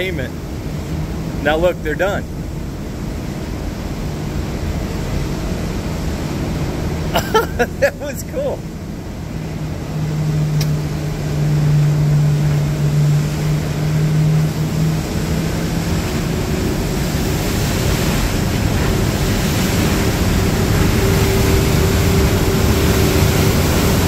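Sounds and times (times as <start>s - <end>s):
boat engines humming: 0.0s - 24.0s
rushing bow wave water: 0.0s - 24.0s.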